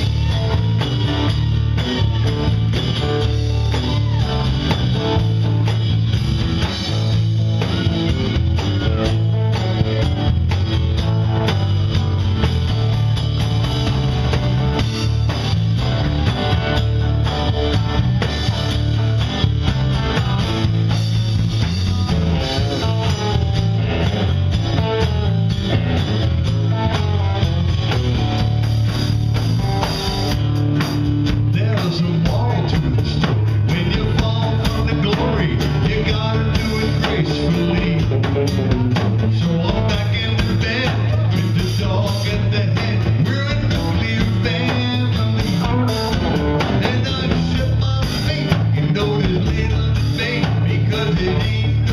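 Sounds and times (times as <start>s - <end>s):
drums steady beat: 0.0s - 51.9s
electric bass: 0.0s - 51.9s
electric guitar: 0.0s - 51.9s.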